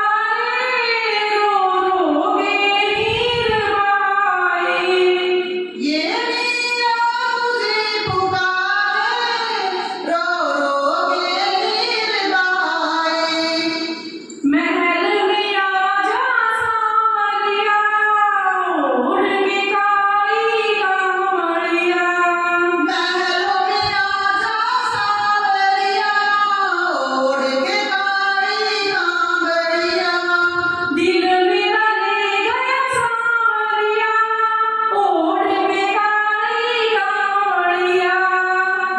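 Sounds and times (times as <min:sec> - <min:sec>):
woman singing into a microphone: 0:00.0 - 0:38.9.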